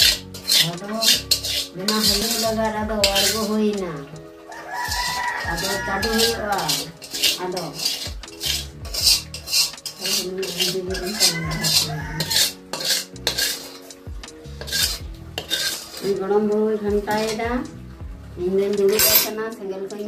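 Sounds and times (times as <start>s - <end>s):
metal spatula scraping wok: 0.0s - 17.7s, 18.7s - 19.5s.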